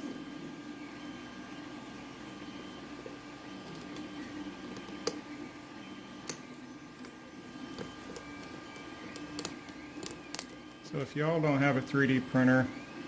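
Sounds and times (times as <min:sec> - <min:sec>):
small machine humming: 0:00.0 - 0:13.0.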